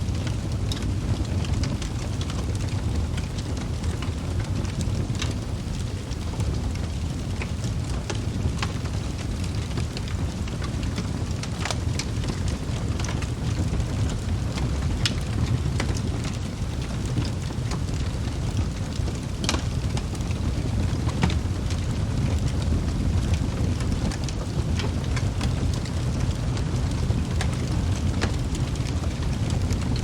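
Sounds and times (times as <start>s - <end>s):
fire rumbling: 0.0s - 30.0s
logs crackling and popping: 0.0s - 30.0s.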